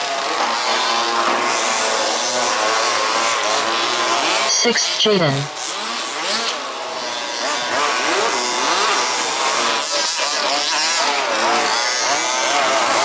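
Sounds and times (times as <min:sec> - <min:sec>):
small engines revving and whining: 0:00.0 - 0:04.5, 0:05.6 - 0:13.0.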